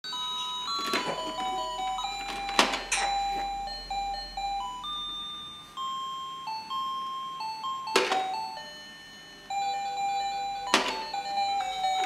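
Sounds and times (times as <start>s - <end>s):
electronic toy melody beeping: 0.1s - 12.0s.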